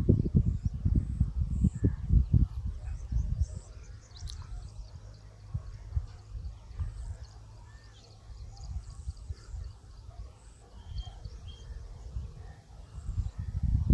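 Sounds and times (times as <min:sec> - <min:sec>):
wind buffeting microphone: 0:00.0 - 0:13.9
faint bird chirps: 0:00.2 - 0:13.8.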